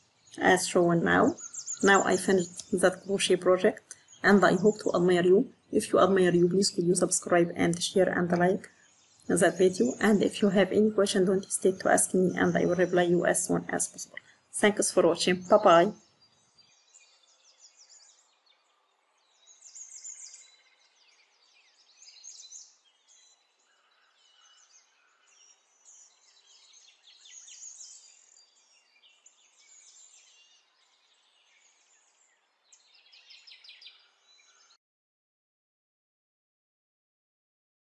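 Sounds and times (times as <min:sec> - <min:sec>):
faint songbirds chirping: 0:00.0 - 0:34.8.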